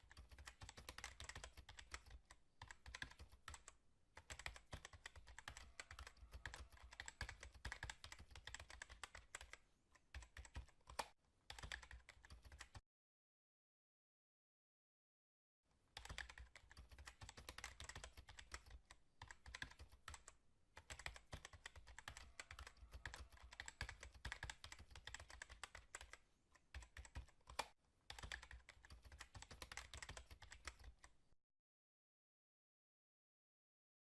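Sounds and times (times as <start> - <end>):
keyboard typing: 0.0 - 12.8, 15.9 - 31.2.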